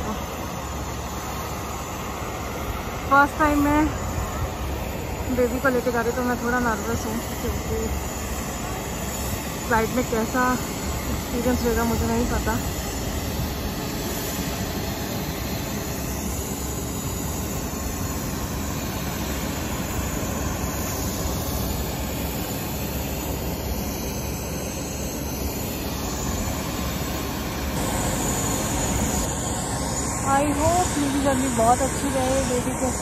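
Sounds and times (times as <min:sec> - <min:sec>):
aircraft engine drone: 0:00.0 - 0:33.0.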